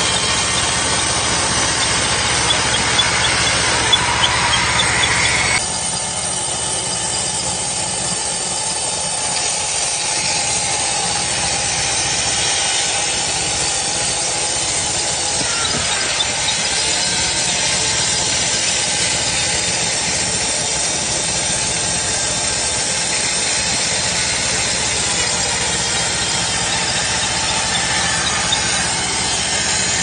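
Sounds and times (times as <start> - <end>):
sawmill cutting through log: 0.0 - 30.0.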